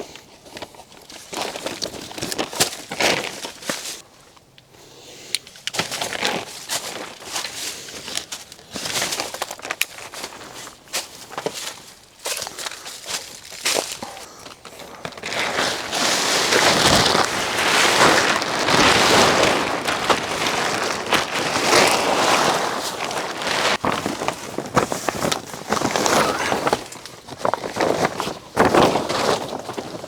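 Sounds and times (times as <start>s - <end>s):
plastic tarps rustling: 0.4s - 4.1s, 5.8s - 30.0s
tarp snapping: 1.2s - 4.0s, 5.7s - 14.2s, 15.0s - 30.0s.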